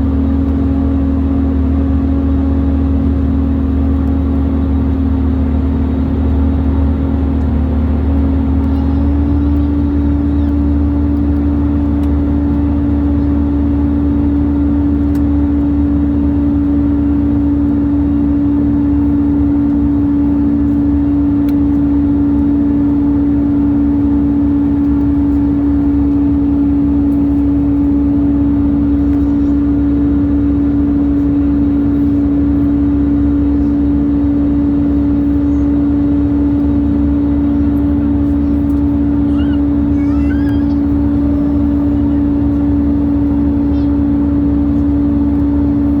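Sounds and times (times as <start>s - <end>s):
constant low rumble: 0.0s - 46.0s
loud steady hum: 0.0s - 46.0s.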